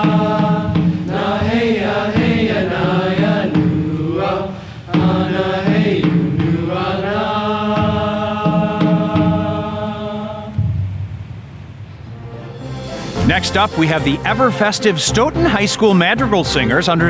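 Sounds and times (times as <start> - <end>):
choir singing: 0.0 - 10.8, 12.2 - 15.6.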